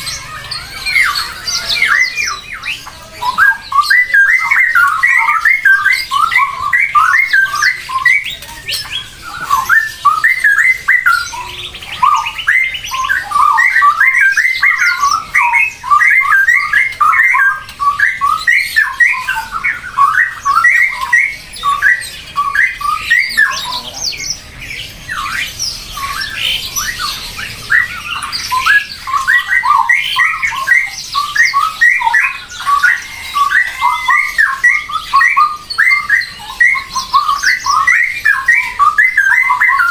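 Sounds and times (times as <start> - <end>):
birds squawking: 0.0 - 39.9.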